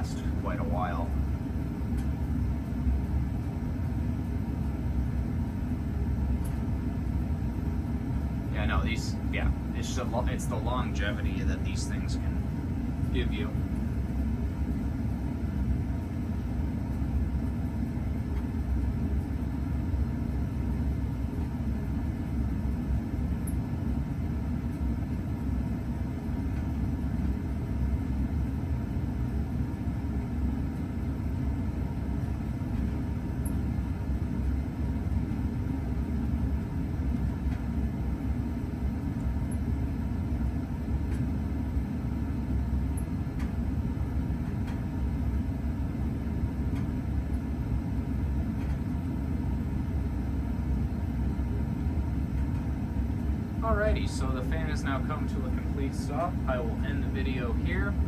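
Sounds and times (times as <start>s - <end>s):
ceiling fan running: 0.0s - 58.0s.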